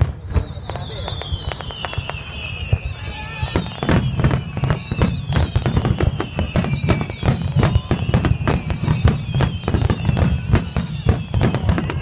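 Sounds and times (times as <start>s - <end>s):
fireworks bangs and crackles: 0.0s - 12.0s
high wavering whistle: 0.0s - 12.0s.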